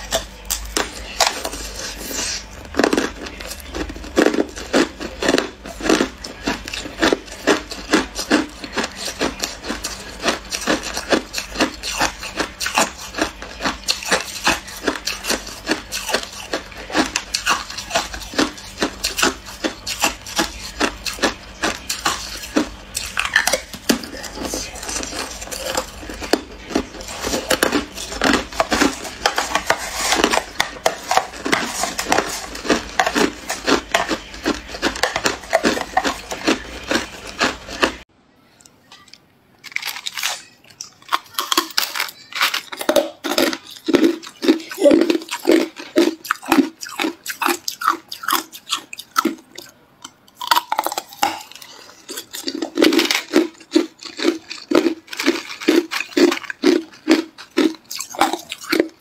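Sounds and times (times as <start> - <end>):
ice being chewed: 0.0 - 38.0, 39.1 - 59.0.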